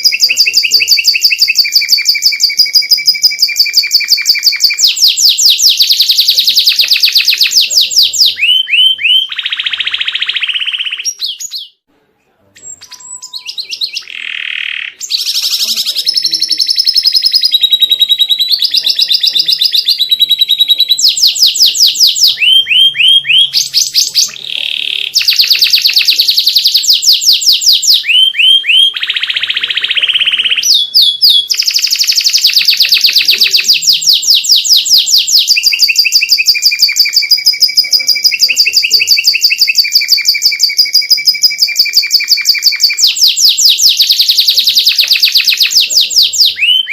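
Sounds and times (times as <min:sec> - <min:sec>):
canary singing trills: 0:00.0 - 0:11.8, 0:12.5 - 0:46.9.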